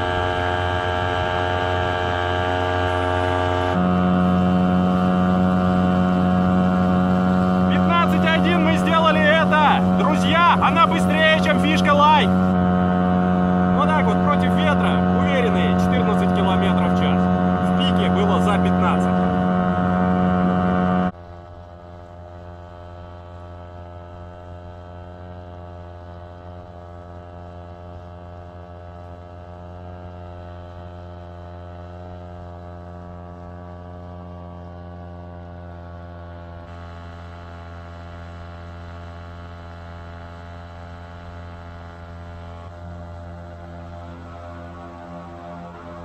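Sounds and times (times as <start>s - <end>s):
outboard motor buzzing: 0.0s - 46.0s.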